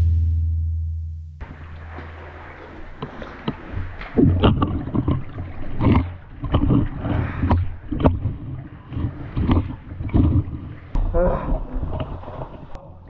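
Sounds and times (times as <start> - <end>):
water sloshing and splashing: 1.4 - 13.0.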